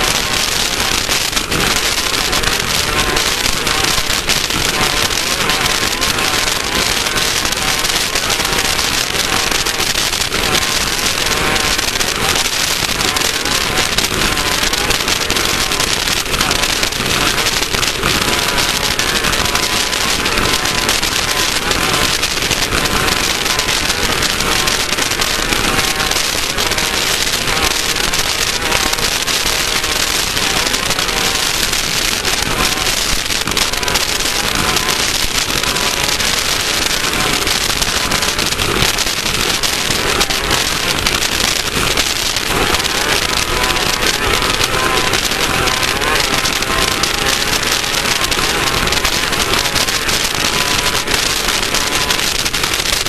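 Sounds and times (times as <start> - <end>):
race car engine at speed: 0.0 - 52.2.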